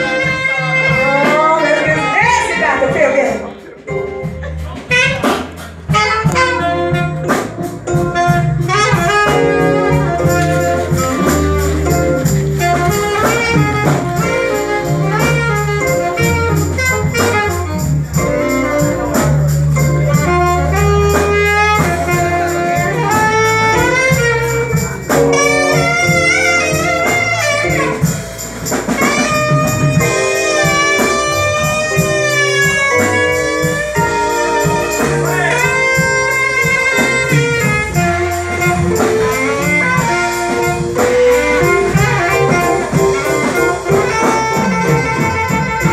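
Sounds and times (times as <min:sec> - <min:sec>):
bass and drums: 0:00.0 - 0:45.9
jazz band playing: 0:00.0 - 0:45.9
lead melody runs: 0:03.9 - 0:45.9.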